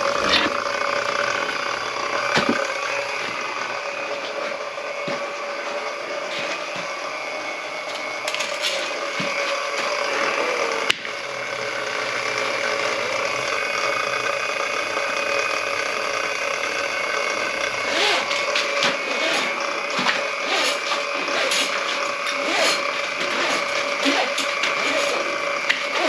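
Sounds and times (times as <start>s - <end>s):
drain cleaning machine running: 0.0s - 26.0s
rattling: 0.0s - 26.0s.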